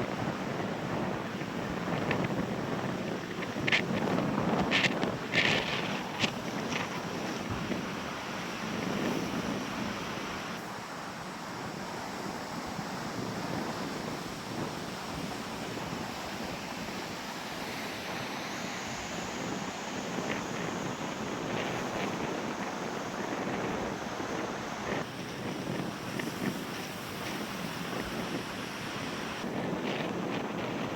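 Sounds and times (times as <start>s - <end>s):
wind buffeting microphone: 0.0s - 10.7s, 11.4s - 30.9s
waves washing onto beach: 0.0s - 30.9s.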